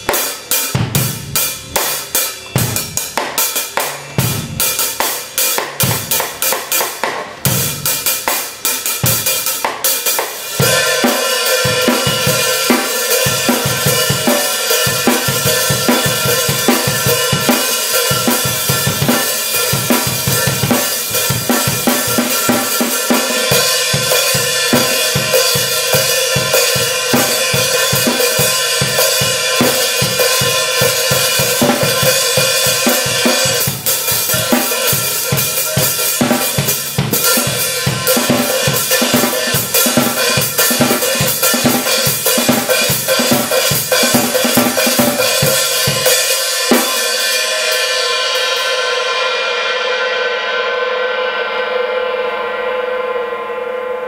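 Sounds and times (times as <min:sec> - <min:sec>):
drum kit groove: 0:00.0 - 0:50.1
cymbals ringing: 0:00.0 - 0:54.0.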